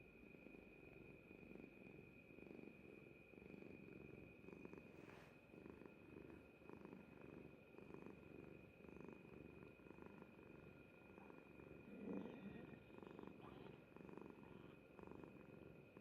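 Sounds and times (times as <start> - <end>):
cat purring: 0.2 - 16.0.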